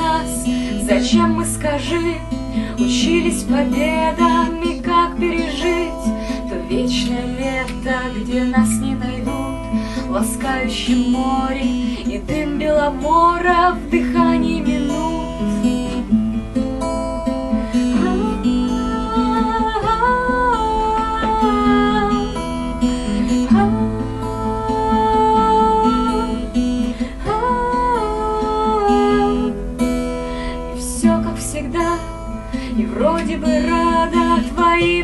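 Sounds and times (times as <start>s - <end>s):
acoustic guitar accompaniment: 0.0s - 35.0s.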